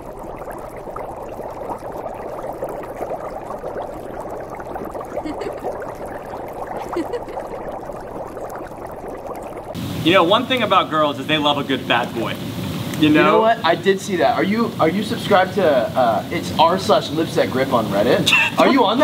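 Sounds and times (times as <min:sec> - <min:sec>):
hot tub jets bubbling: 0:00.0 - 0:19.0.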